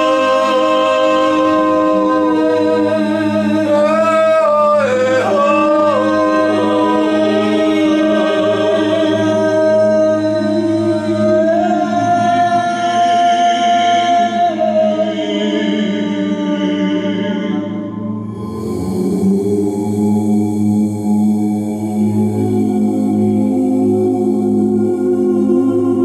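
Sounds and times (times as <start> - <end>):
low drone: 0.0 - 12.7, 17.5 - 26.0
wordless a cappella singing: 0.0 - 26.0.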